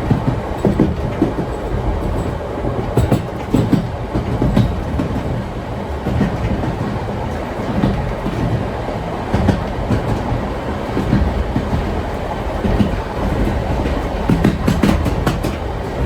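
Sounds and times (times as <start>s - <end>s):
railway carriage rolling on track: 0.0s - 16.0s
wheels clickety-clack on rails: 0.0s - 16.0s.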